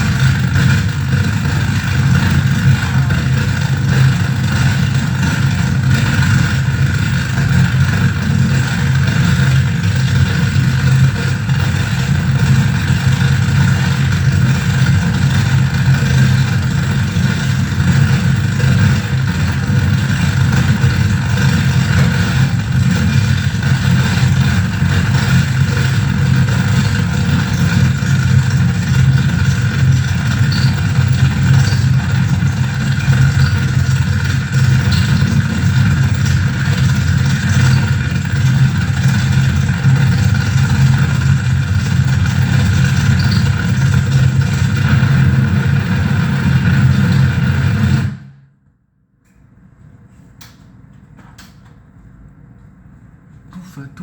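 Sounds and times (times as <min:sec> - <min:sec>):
heavy low rumble: 0:00.0 - 0:48.2
harsh noise drone: 0:00.0 - 0:48.3.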